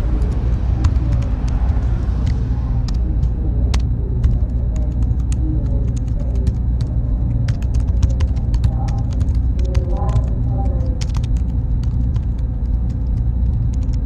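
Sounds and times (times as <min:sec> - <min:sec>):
faint high whine: 0:00.0 - 0:14.0
low machine rumble: 0:00.0 - 0:14.0
keyboard typing clicks: 0:00.2 - 0:14.0.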